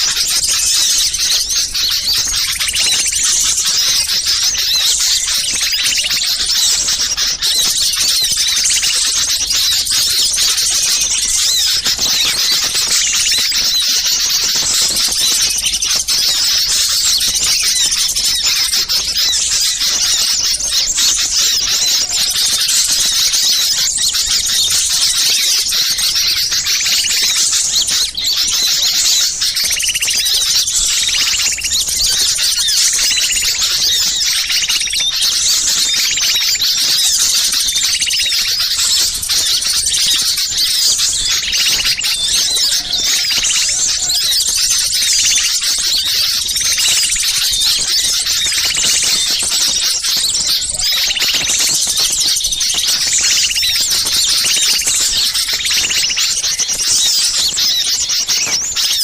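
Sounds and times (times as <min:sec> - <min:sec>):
songbirds chattering: 0:00.0 - 0:59.0.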